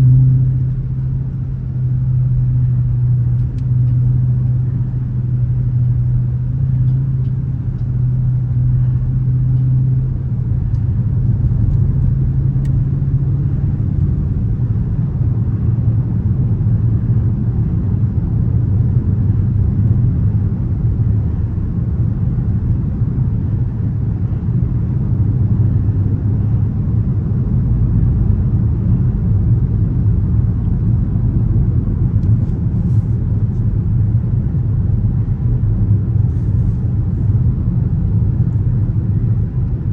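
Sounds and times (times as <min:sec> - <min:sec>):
car engine droning at cruise: 0:00.0 - 0:39.9
road rumble: 0:00.0 - 0:39.9.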